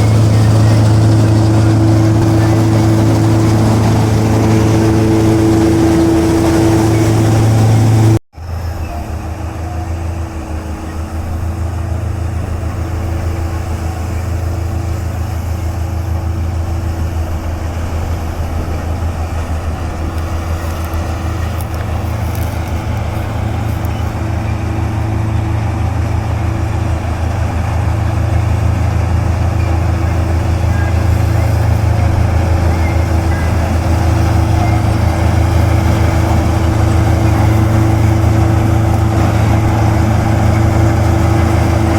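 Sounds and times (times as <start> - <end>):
harvester engine humming: 0.0 - 41.9.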